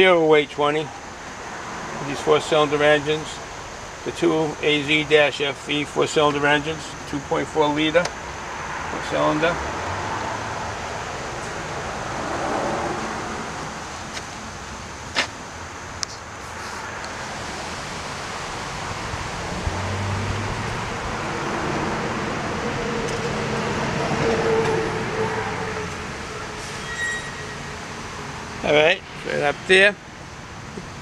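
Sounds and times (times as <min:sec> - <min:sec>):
rushing vehicle noise: 0:00.0 - 0:31.0.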